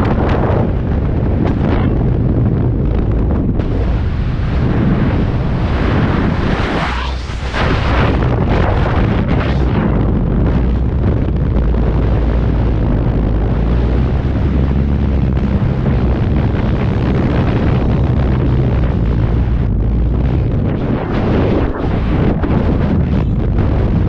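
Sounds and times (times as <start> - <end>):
wind buffeting camera microphone: 0.0 - 24.0.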